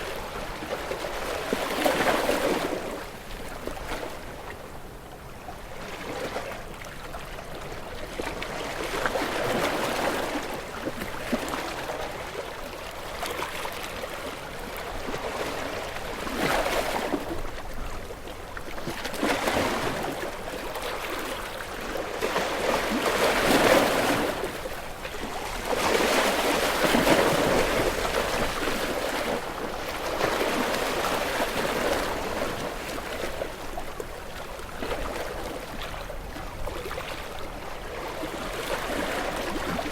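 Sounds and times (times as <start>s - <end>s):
ocean waves washing ashore: 5.8s - 39.9s.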